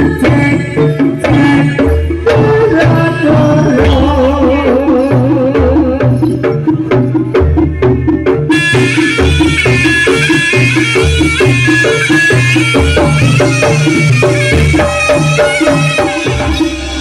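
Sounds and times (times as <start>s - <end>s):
drums: 0.0s - 17.0s
pitched metal percussion: 0.0s - 17.0s.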